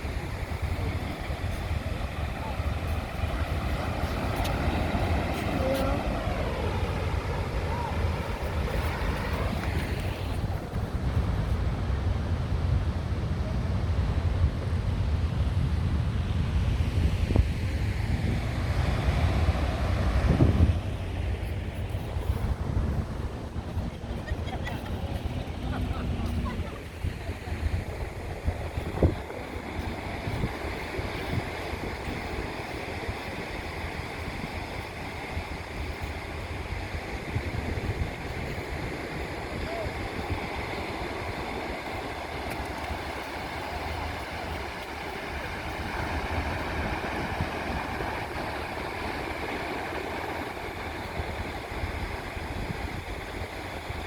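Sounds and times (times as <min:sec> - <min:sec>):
wind buffeting microphone: 0:00.0 - 0:13.0, 0:13.9 - 0:54.0
sea surf rushing: 0:00.0 - 0:54.0.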